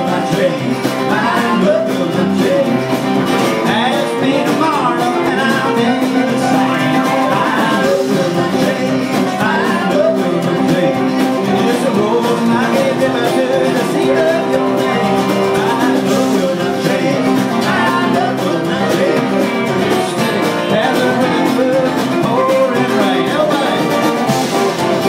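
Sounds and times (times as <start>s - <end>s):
bluegrass on acoustic strings: 0.0s - 25.0s
upright bass plucked: 0.0s - 25.0s.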